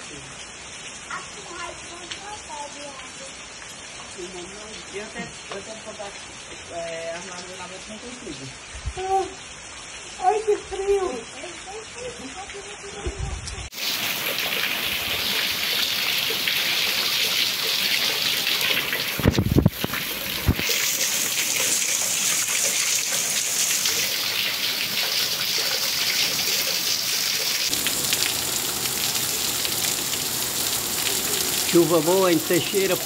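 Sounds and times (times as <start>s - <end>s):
heavy rain: 0.0s - 33.0s
water running off roof and splashing: 0.0s - 33.0s.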